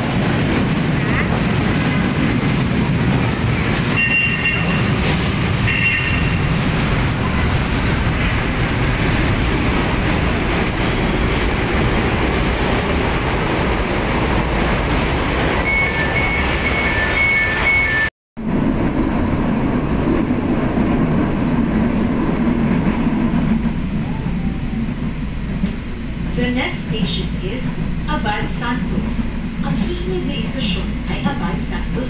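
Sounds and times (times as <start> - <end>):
train rumbling and braking: 0.0 - 32.0.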